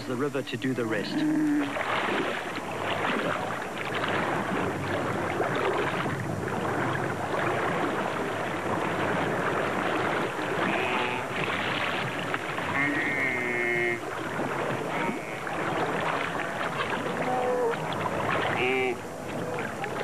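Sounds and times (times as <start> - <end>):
water splashing and churning: 0.0 - 20.0.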